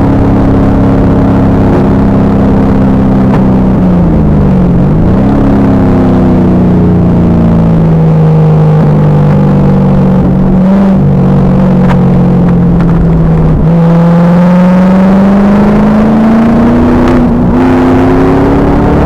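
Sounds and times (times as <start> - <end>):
car engine under hard load: 0.0 - 19.0.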